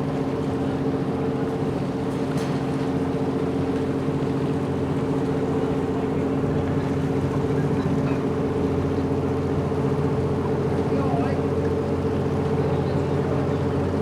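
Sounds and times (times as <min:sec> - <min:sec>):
ship diesel engine humming: 0:00.0 - 0:14.0.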